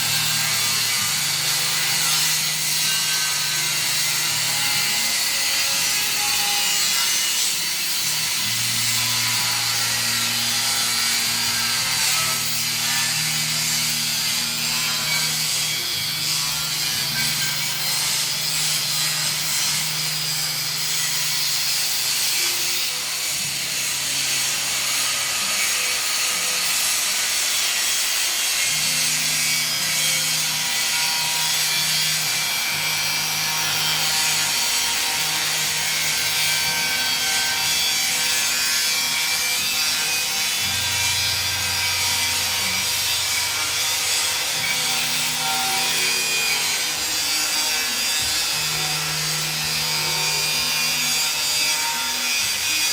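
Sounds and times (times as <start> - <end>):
grinder disc cutting steel: 0.0 - 52.9.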